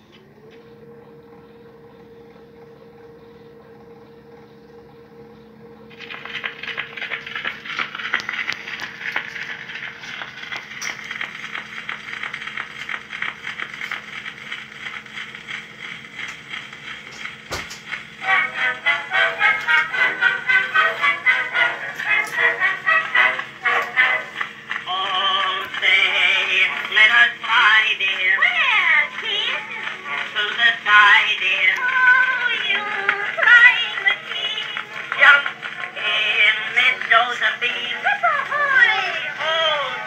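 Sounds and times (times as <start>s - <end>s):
record surface hiss and crackle: 0.0s - 40.0s
spring motor humming: 0.0s - 40.0s.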